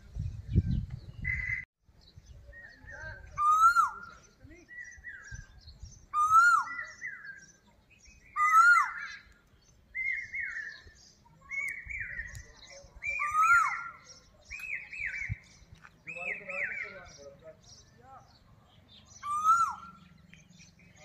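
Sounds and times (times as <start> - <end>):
birds calling harshly: 0.2 - 21.0.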